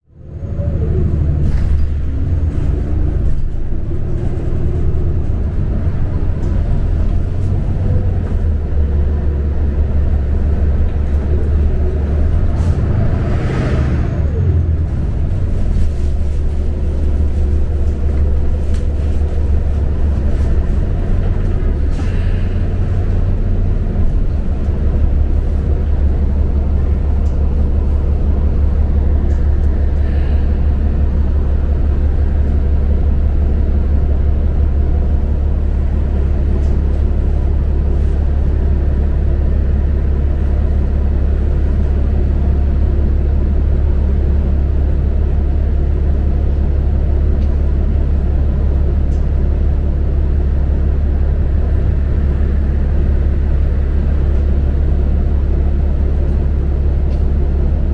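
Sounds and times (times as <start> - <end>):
bus engine rumbling: 0.0 - 57.9.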